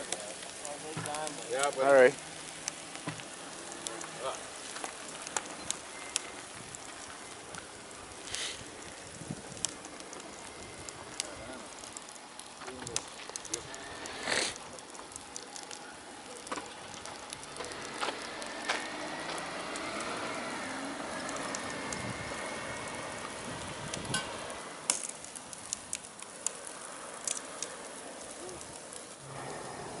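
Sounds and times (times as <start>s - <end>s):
car fire hissing: 0.0s - 30.0s
fire crackling and popping: 0.0s - 30.0s.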